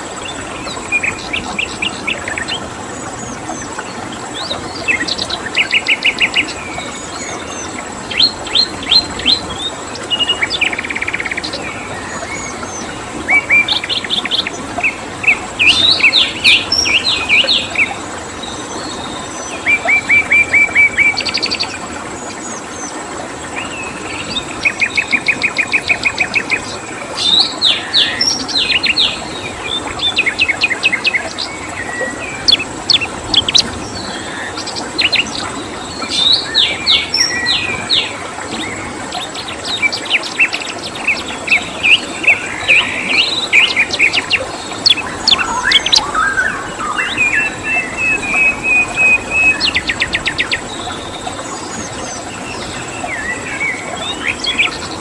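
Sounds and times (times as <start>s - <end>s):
flowing water rushing: 0.0s - 55.0s
songbirds chirping and trilling: 0.0s - 55.0s.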